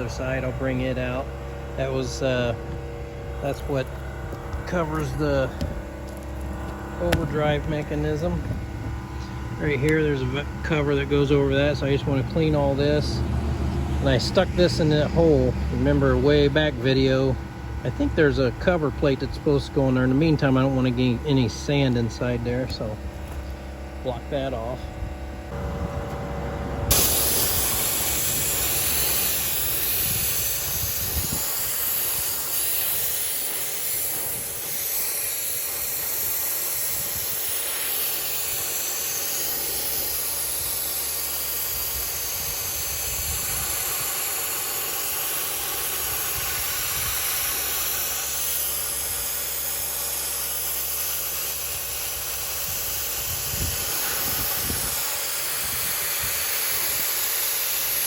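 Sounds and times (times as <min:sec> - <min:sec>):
sandblaster hiss of air and grit: 0:00.0 - 0:13.2, 0:14.0 - 0:23.0, 0:26.9 - 0:58.0.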